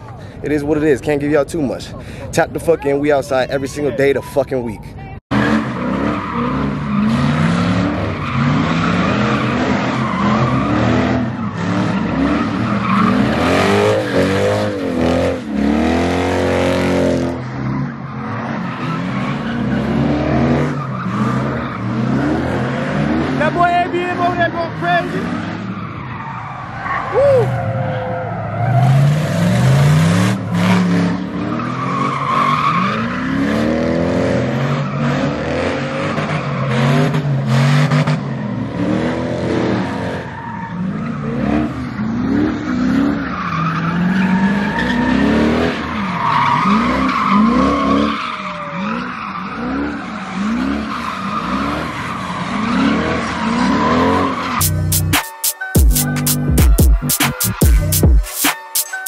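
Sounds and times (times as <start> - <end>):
tyres squealing on asphalt: 0.0 - 59.0
car engine revving: 5.3 - 55.2.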